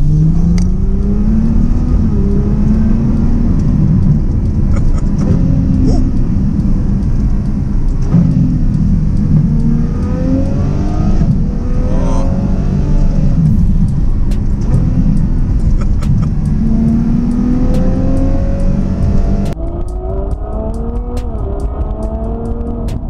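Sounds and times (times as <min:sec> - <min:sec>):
car engine revving: 0:00.0 - 0:23.0
sharp ticks: 0:00.0 - 0:23.0.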